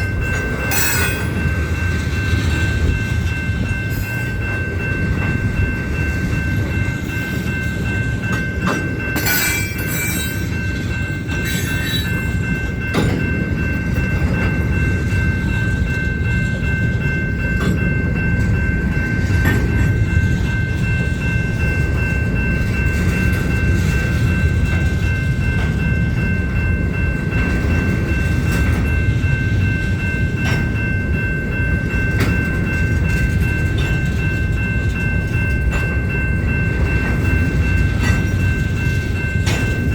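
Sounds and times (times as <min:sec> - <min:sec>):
freight train rumbling past: 0:00.0 - 0:39.9
high ringing tone: 0:00.0 - 0:39.9.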